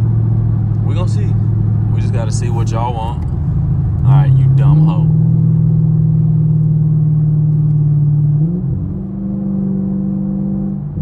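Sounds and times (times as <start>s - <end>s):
car engine droning inside cabin: 0.0s - 11.0s.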